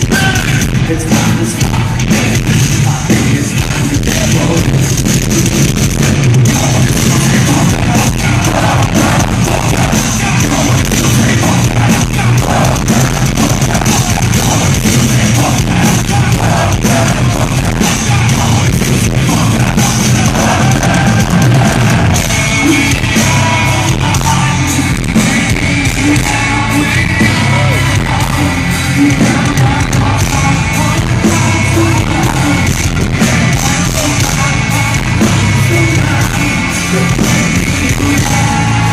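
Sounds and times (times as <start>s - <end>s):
person singing and yelling: 0.0s - 5.7s, 6.3s - 38.9s
distorted guitars: 0.0s - 38.9s
pounding drums: 0.0s - 38.9s.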